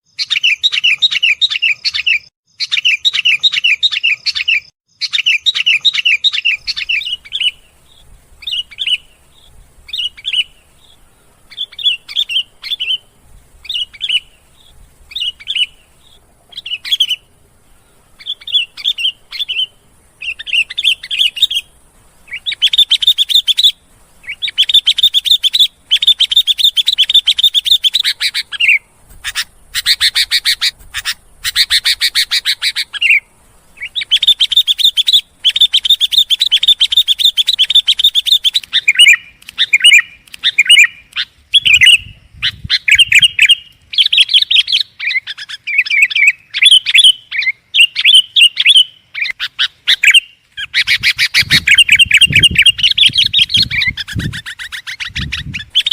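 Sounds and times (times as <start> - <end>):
bulbul chattering calls: 0.1 - 55.9.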